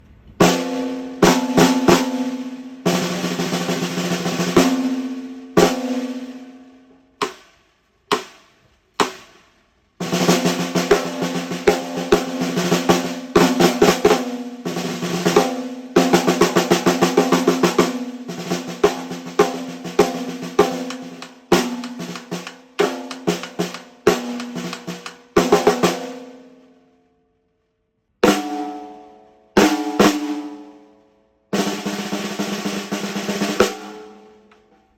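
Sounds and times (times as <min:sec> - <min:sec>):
snare drum strokes and rolls: 0:00.4 - 0:06.4, 0:07.2 - 0:26.4, 0:29.6 - 0:30.6, 0:31.5 - 0:34.3.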